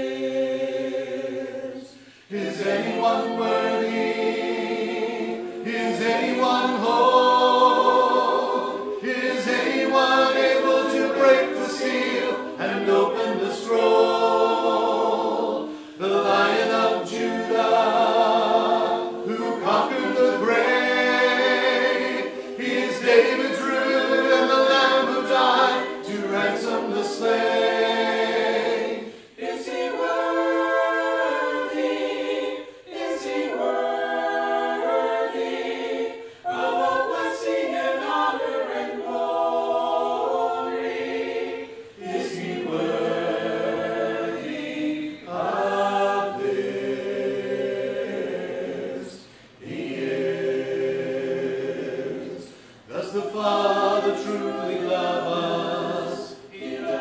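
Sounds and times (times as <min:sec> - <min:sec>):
voices singing a worship song: 0:00.0 - 0:57.0.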